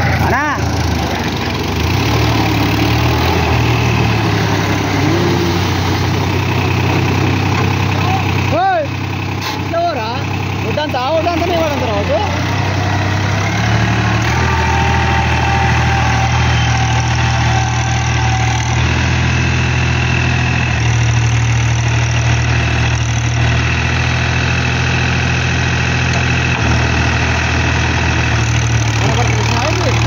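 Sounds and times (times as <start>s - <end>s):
diesel tractor engine under load: 0.0s - 30.0s.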